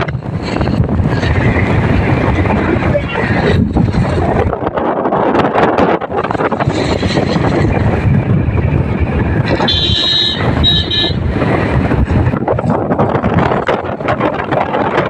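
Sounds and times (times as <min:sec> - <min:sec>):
moving vehicle rumble: 0:00.0 - 0:15.0
wind buffeting microphone: 0:00.0 - 0:15.0.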